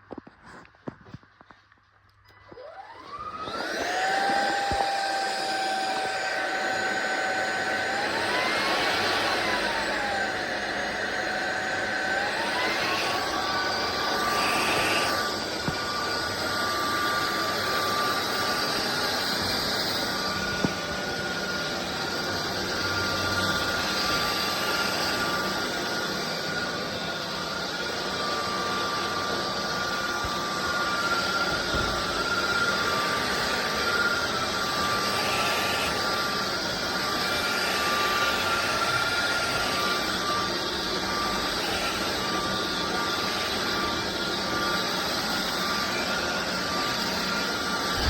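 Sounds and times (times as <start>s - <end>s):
stick vacuum running: 2.3s - 48.0s.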